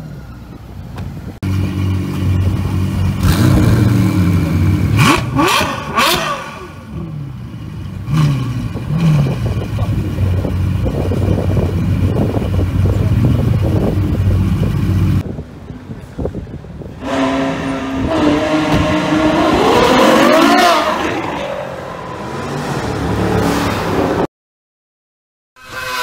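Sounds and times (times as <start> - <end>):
car engine revving: 1.4 - 15.2, 17.0 - 24.3.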